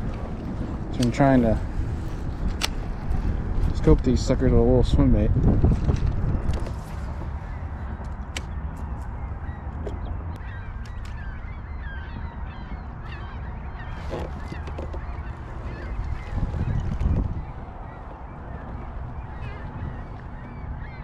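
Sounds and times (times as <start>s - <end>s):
low wind rumble: 0.0s - 21.0s.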